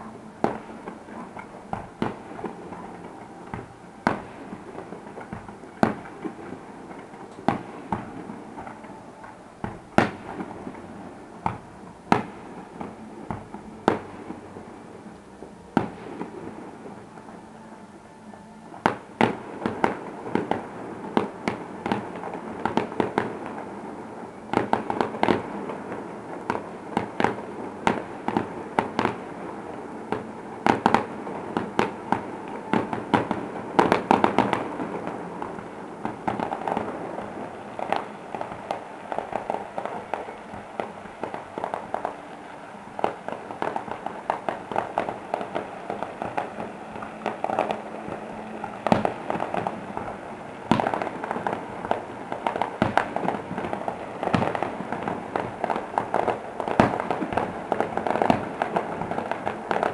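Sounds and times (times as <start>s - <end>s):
distant fireworks bangs and crackles: 0.0s - 59.9s.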